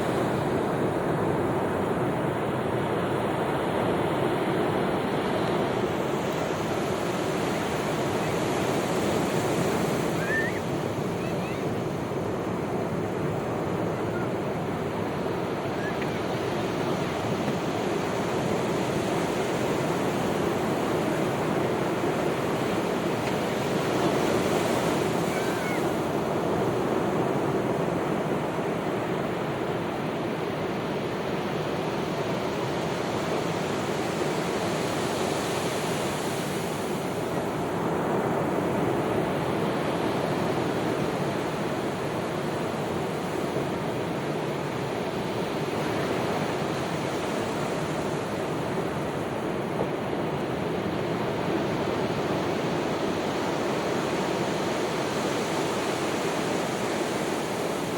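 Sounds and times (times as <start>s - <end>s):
sea waves breaking on beach: 0.0s - 57.9s.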